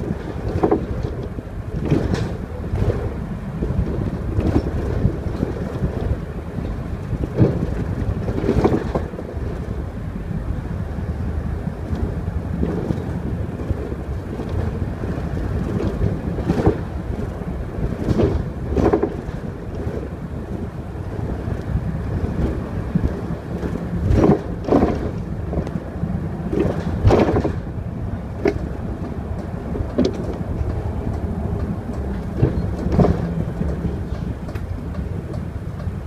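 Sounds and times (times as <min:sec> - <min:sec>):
bus engine and road rumble: 0:00.0 - 0:36.0
knocks and rattles over bumps: 0:00.0 - 0:36.0.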